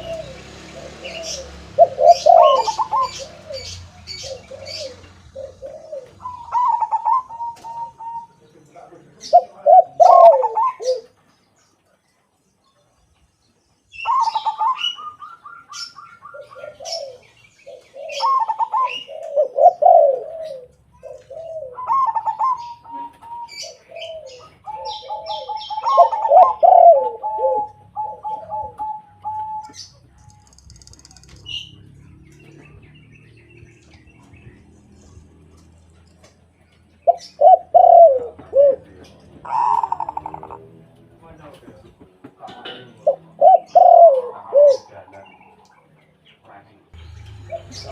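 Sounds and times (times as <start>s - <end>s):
doves cooing: 0.0s - 11.5s, 13.9s - 47.9s.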